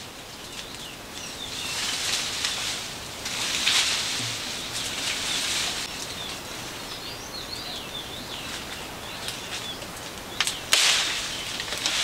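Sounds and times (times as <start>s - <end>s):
sharp crackles: 0.0s - 7.0s, 8.4s - 12.0s
steady forest hiss: 0.0s - 12.0s.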